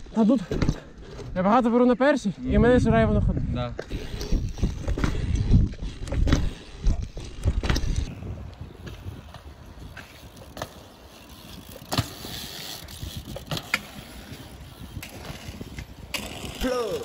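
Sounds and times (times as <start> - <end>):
bike tyres rolling on asphalt: 0.0 - 17.0
wind buffeting microphone: 2.4 - 17.0.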